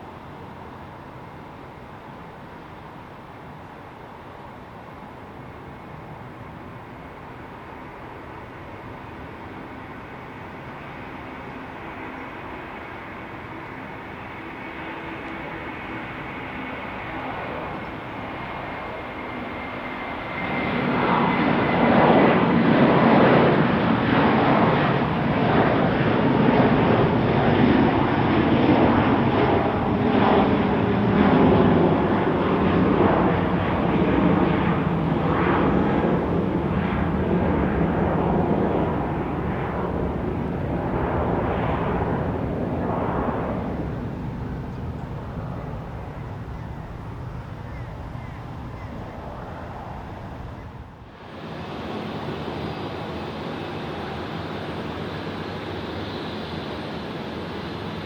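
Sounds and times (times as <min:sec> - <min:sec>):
jet engines passing: 0:00.0 - 0:58.0.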